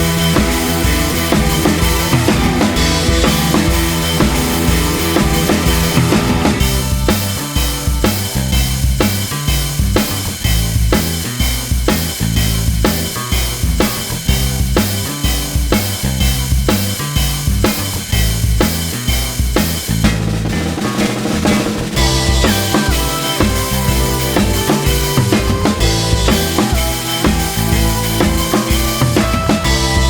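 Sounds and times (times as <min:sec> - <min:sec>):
bass line: 0:00.0 - 0:30.0
drum kit beat: 0:00.0 - 0:30.0.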